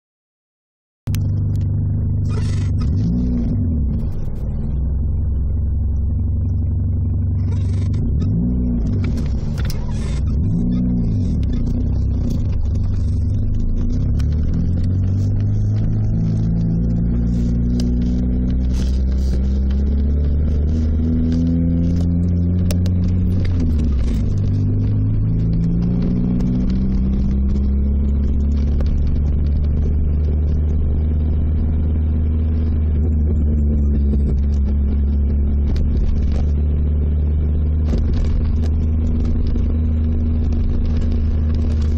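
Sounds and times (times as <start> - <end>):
car engine revving: 1.1 - 41.9.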